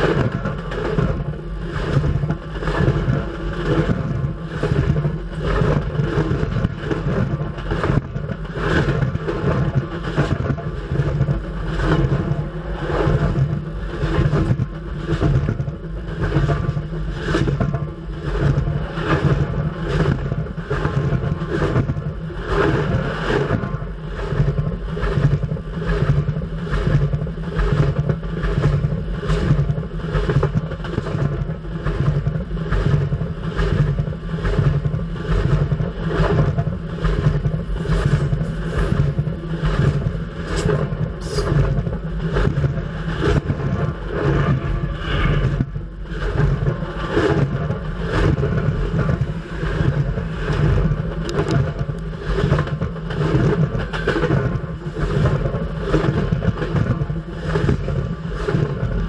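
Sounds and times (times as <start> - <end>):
train wheels rumbling and clacking: 0.0 - 58.9.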